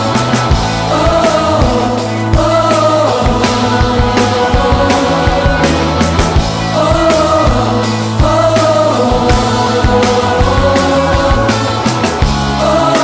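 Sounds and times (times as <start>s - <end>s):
low sustained bass: 0.0s - 12.9s
drum beat: 0.0s - 13.0s
gospel choir singing: 0.0s - 13.0s.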